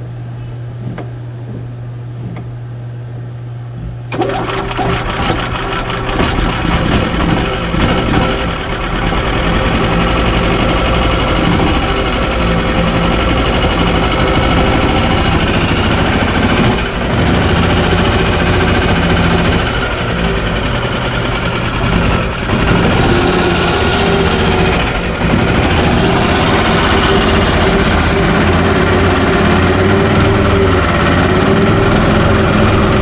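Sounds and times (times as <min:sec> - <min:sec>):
golf cart engine running: 0:04.1 - 0:33.0.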